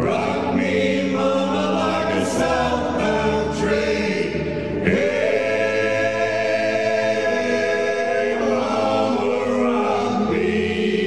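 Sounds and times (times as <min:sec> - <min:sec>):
men singing in close harmony: 0:00.0 - 0:11.0.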